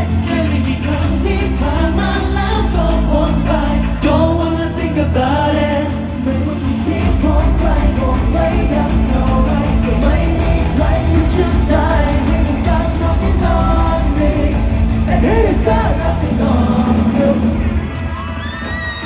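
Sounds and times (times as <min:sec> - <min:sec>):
loud live pop music with singing: 0:00.0 - 0:19.0.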